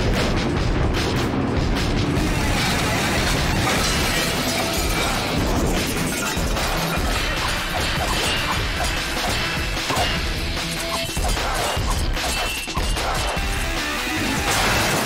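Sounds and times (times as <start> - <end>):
dramatic theme music: 0.0 - 15.0.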